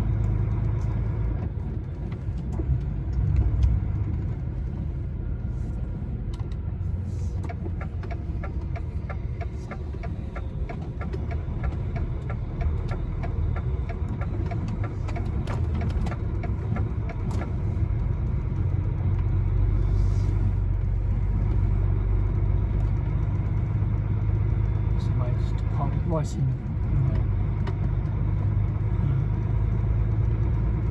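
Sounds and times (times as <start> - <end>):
diesel engine rumbling: 0.0 - 30.9.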